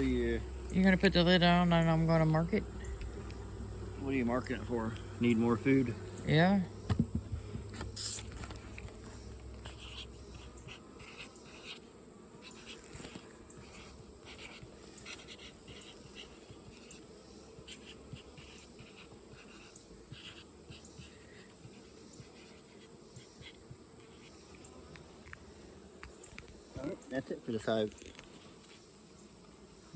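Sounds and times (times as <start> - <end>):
honeybees buzzing: 0.0 - 29.9.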